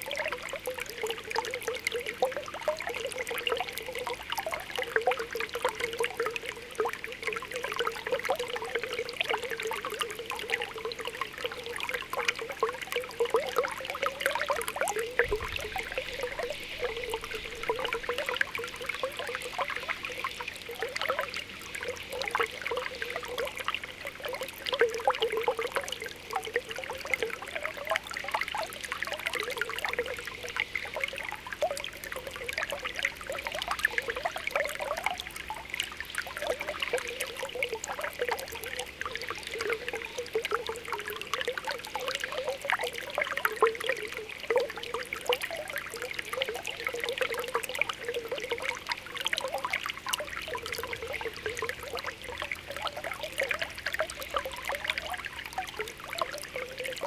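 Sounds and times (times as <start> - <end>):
spring water bubbling and popping: 0.0 - 57.0
water trickling: 0.0 - 57.0.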